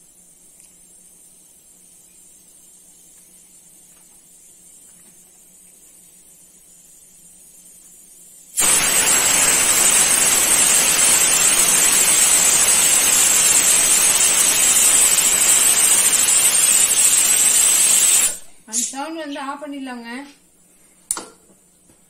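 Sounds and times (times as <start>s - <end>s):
pressure cooker steam hiss: 0.0s - 19.0s.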